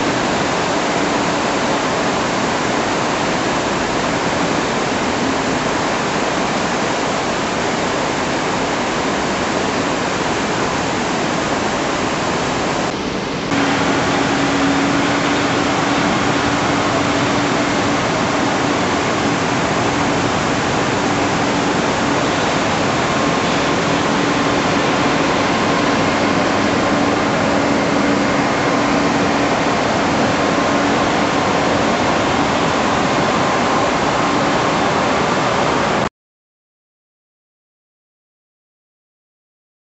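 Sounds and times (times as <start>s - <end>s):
low hum: 0.0s - 36.1s
water rushing: 0.0s - 36.1s.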